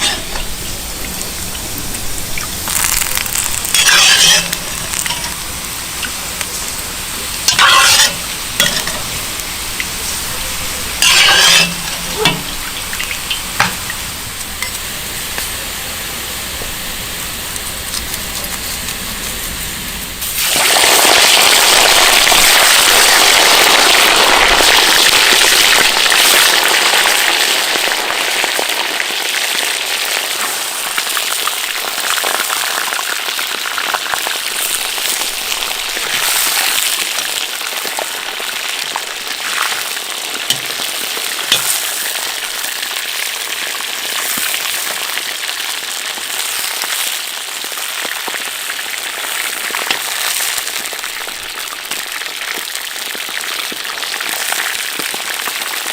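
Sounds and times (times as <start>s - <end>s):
food sizzling in hot oil: 0.0s - 55.9s.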